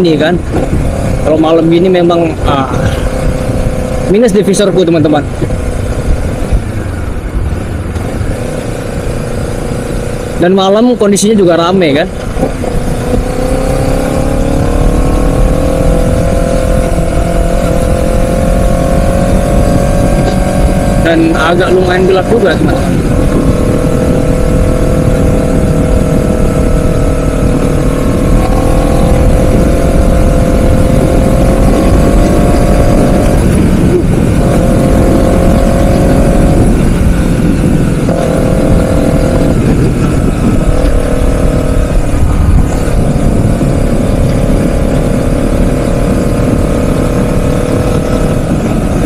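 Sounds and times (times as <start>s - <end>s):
motorcycle engine running: 0.0s - 49.0s
wind rush on microphone: 0.0s - 49.0s.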